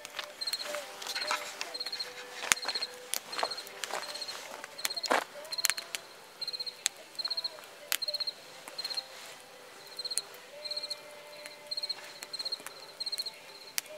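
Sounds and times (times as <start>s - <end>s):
campfire wood cracking: 0.0s - 13.9s
cricket chirping: 0.3s - 13.8s.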